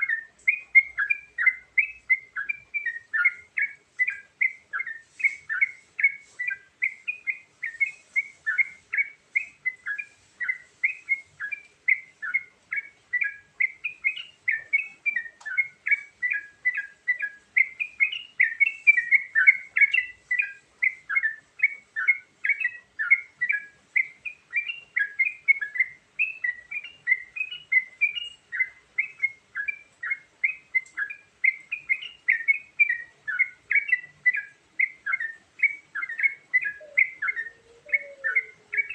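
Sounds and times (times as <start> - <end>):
bulbul singing chirpy notes: 0.0 - 38.9.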